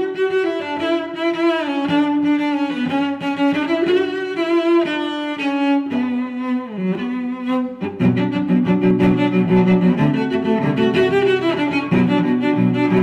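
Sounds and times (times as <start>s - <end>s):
bowed string music: 0.0s - 13.0s.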